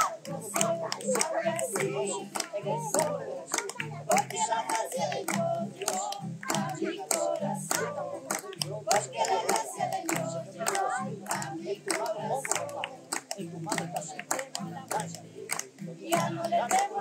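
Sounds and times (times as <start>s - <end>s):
congregation clapping: 0.0s - 17.0s
instrumental music: 0.0s - 17.0s
people singing: 0.0s - 17.0s.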